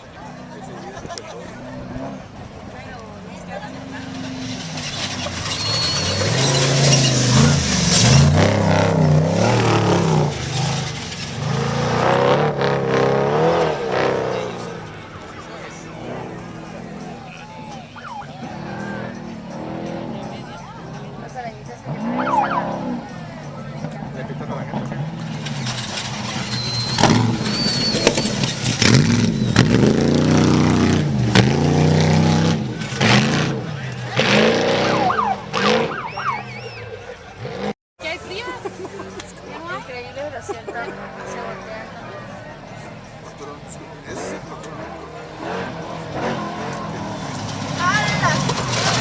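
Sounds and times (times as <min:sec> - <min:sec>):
race vehicle engine revving: 0:00.0 - 0:49.0.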